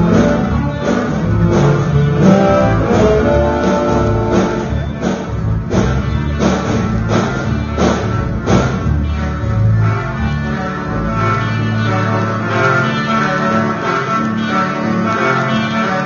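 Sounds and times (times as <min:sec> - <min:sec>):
steady beat: 0:00.0 - 0:13.9
electric guitar: 0:00.0 - 0:16.0
upright bass: 0:00.0 - 0:16.0.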